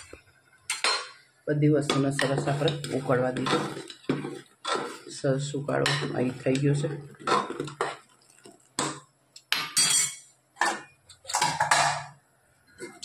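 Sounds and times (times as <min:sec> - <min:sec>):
spoon stirring in metal pot: 0:00.0 - 0:13.0.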